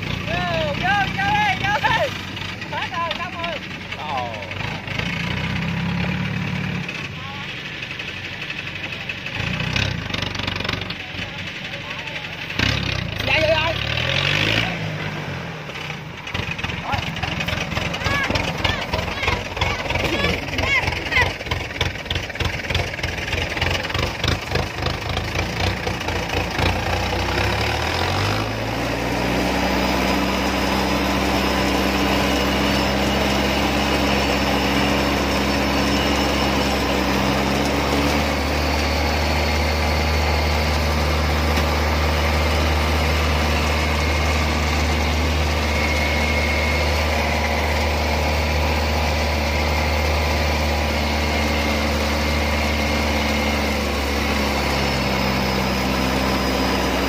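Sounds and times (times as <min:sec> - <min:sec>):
farm vehicle engine running: 0:00.0 - 0:57.0.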